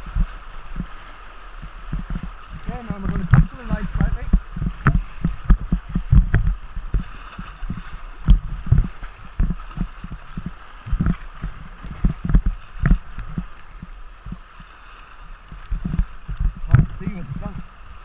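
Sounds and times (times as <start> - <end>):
river water hissing: 0.0 - 18.0
kayak thumps and knocks: 1.6 - 14.8, 15.4 - 17.7.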